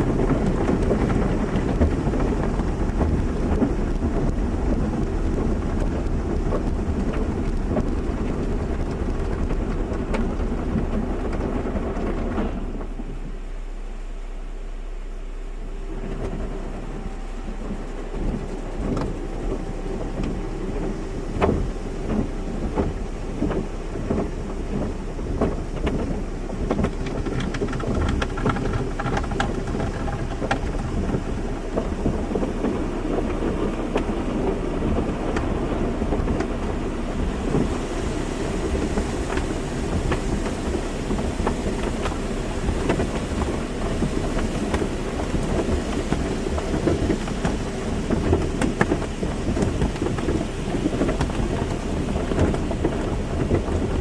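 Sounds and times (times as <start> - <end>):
car wash machine hum: 0.0 - 54.0
water pelting car body: 0.0 - 54.0.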